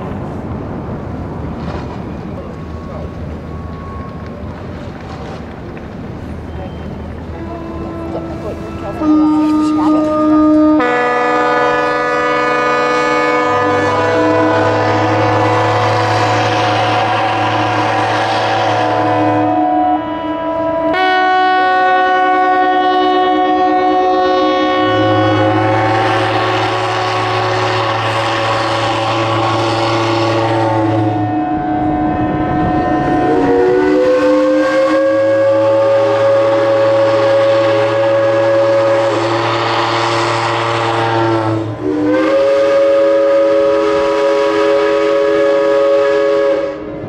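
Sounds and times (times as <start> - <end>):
ships' horns and whistles: 6.3 - 47.0
deep horn blasts: 7.4 - 47.0.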